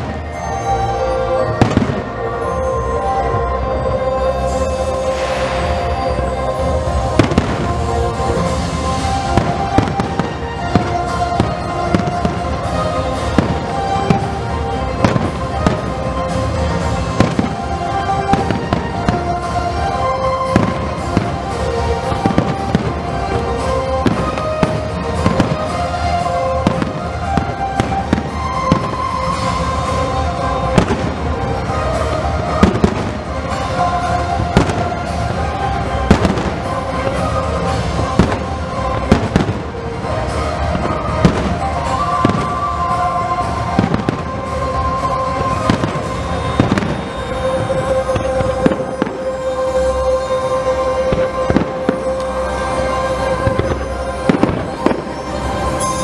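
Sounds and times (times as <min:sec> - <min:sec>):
fireworks bursting and crackling: 0:00.0 - 0:03.2, 0:04.4 - 0:56.0
music playing: 0:00.0 - 0:56.0.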